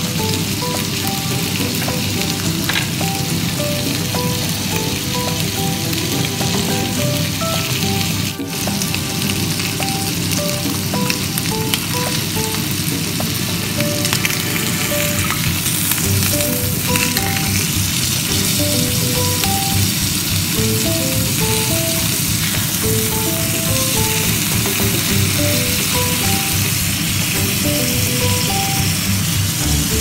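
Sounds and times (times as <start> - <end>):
light background music: 0.0 - 30.0
steaks sizzling in a pan: 0.0 - 30.0.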